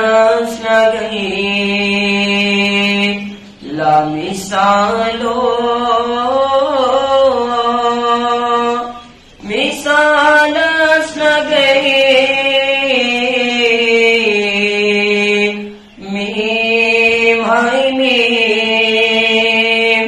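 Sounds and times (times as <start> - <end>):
person singing unaccompanied: 0.0 - 20.0.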